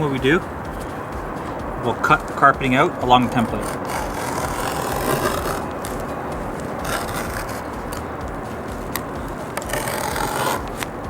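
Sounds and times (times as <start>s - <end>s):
steady background noise: 0.0s - 11.0s
blade cutting carpet: 2.0s - 11.0s.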